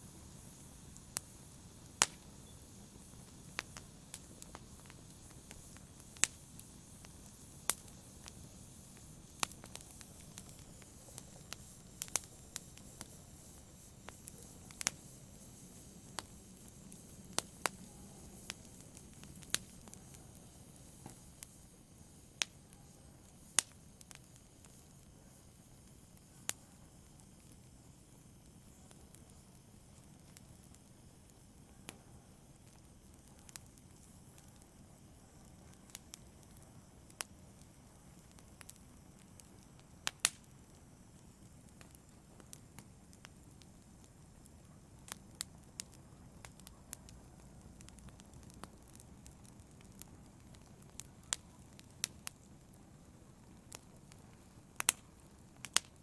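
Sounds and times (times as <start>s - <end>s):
fire crackling and popping: 0.0s - 56.0s
fire hissing: 0.0s - 56.0s.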